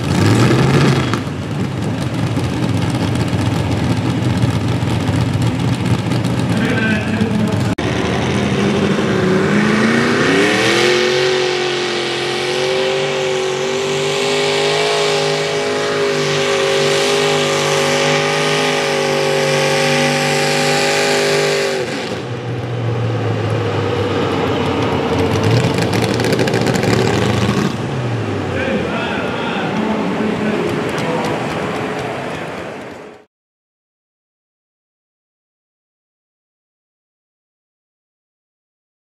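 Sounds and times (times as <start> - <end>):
tractor engine at full throttle: 0.0 - 33.3.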